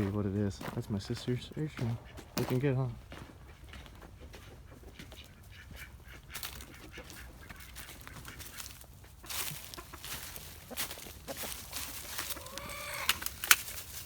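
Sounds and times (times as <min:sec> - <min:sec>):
guinea fowl squawking: 0:00.0 - 0:13.6.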